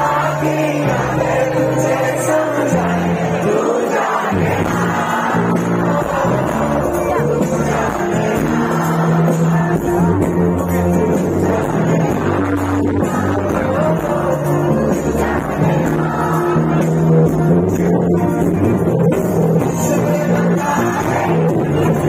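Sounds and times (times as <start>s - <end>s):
man singing: 0.0s - 22.0s
steady bass line: 0.0s - 22.0s.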